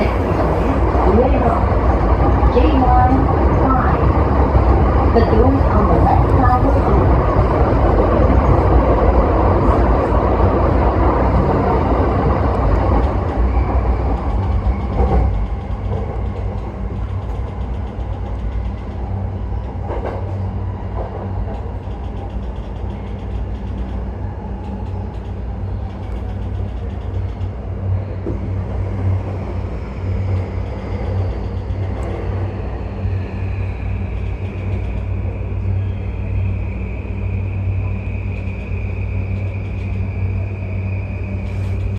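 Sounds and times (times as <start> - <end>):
train wheel rumble: 0.0 - 41.9.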